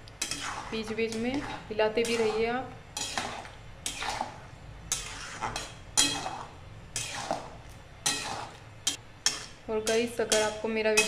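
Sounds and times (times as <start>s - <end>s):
metal spoon scraping a pot: 0.0s - 11.0s.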